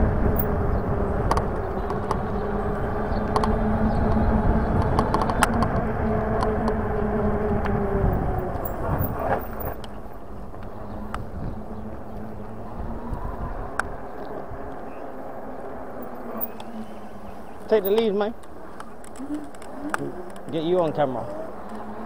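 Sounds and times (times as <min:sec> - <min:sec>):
bike clicks and rattles: 0:00.0 - 0:22.0
electric motor hum: 0:00.0 - 0:22.0
tyre noise on tarmac: 0:00.0 - 0:22.0
wind rushing over microphone: 0:00.0 - 0:22.0.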